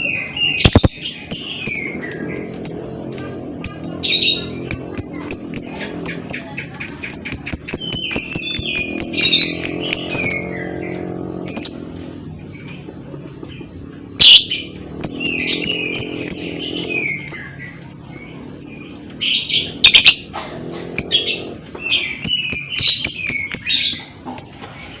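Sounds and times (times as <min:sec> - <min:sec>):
lovebird chattering: 0:00.6 - 0:11.9, 0:13.5 - 0:20.3, 0:21.0 - 0:24.6.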